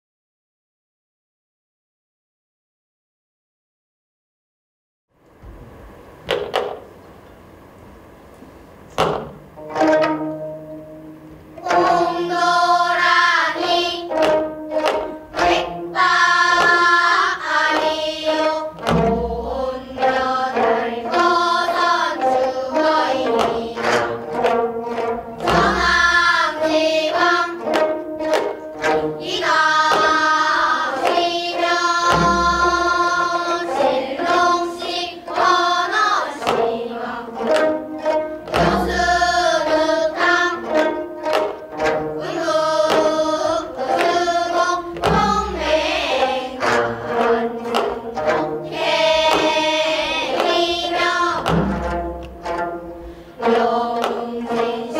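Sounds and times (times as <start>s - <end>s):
deep drum strokes: 8.8s - 54.9s
children singing in unison: 8.9s - 54.9s
plucked zither: 9.0s - 17.0s, 17.7s - 35.6s, 36.4s - 54.9s.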